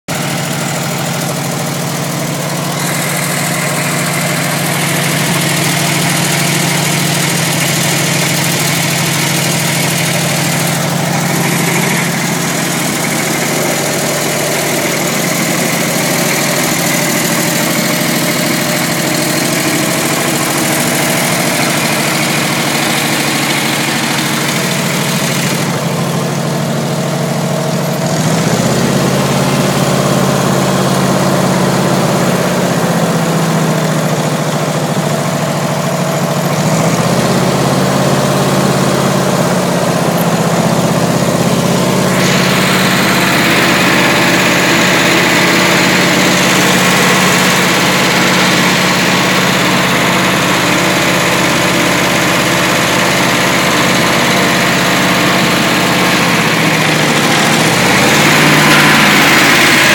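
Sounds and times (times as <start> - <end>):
backhoe engine idling: 0.0 - 59.9.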